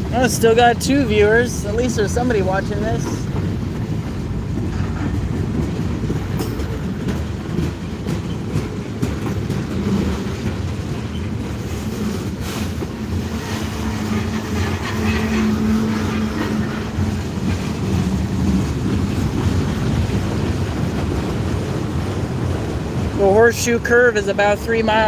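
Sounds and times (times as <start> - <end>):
freight train wheels rolling: 0.0 - 25.0.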